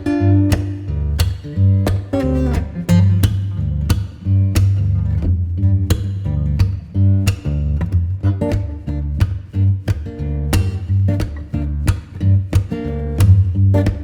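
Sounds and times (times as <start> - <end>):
guitar-led song with beat: 0.0 - 14.0.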